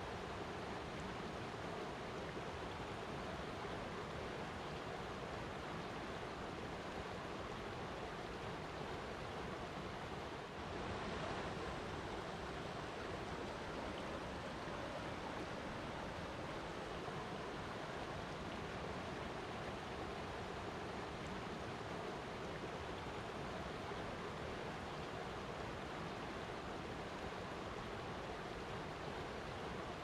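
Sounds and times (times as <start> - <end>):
water rushing: 0.1 - 30.0.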